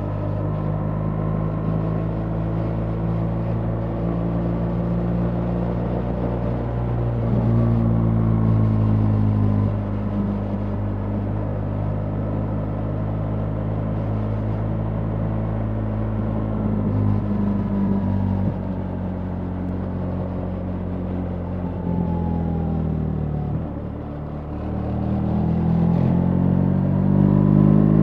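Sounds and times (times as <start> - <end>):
road noise: 0.0 - 28.0.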